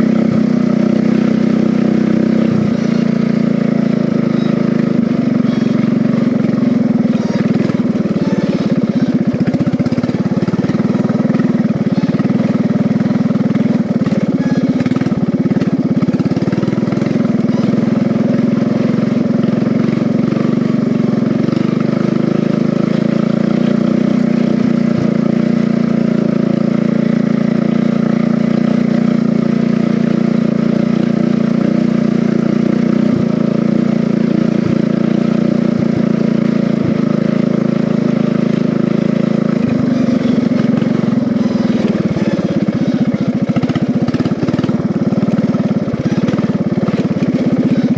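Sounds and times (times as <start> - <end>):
riding mower engine running: 0.0 - 47.9.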